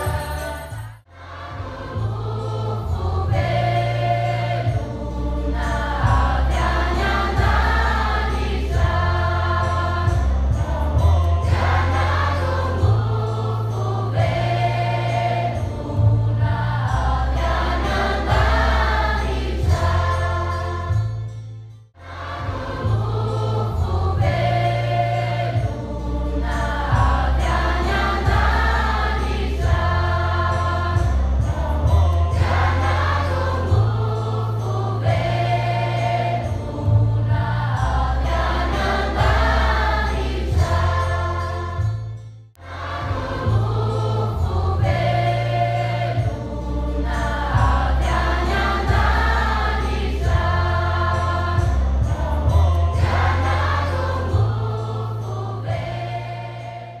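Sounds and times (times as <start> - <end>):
choir singing: 0.0 - 21.1, 22.0 - 42.0, 42.6 - 57.0
sustained bass notes: 0.0 - 57.0.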